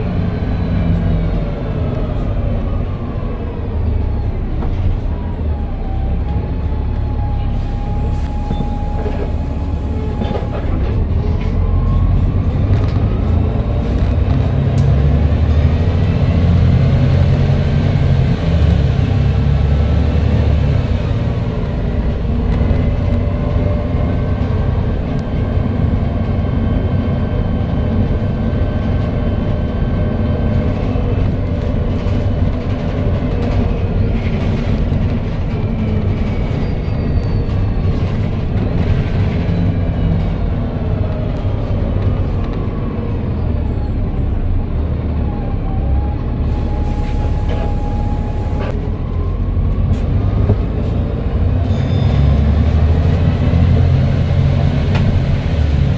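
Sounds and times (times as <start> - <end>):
bus engine drone: 0.0 - 55.9.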